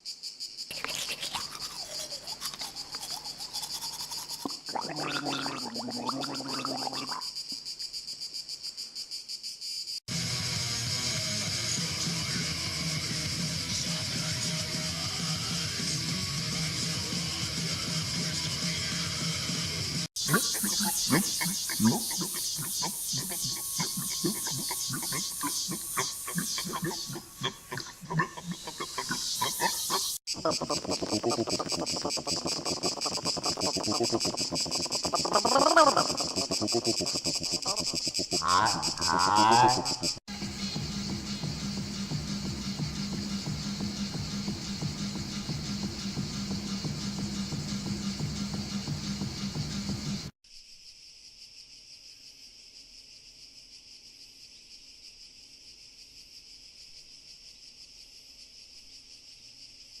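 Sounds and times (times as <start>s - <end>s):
insects chirping: 0.0s - 60.0s.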